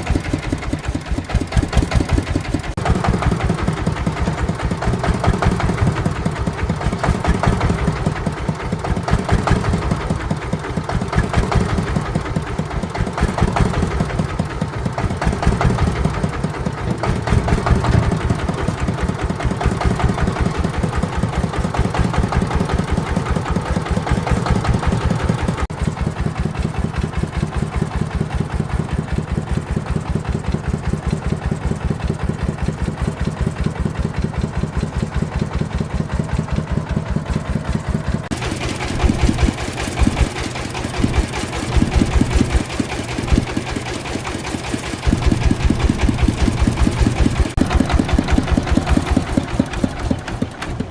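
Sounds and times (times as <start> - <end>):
farm vehicle engine running: 0.0 - 50.9.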